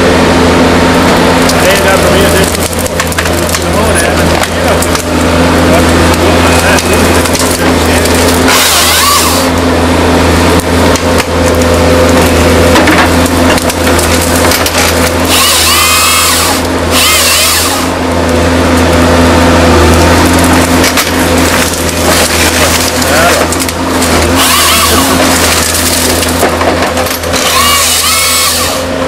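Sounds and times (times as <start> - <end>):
diesel engine running under load: 0.0 - 29.0
chainsaw cutting tree stems: 1.4 - 29.0.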